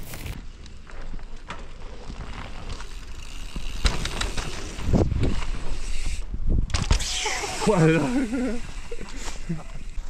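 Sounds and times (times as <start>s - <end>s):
bike rattling: 0.0s - 10.0s
bike tyres on dirt trail: 0.0s - 10.0s.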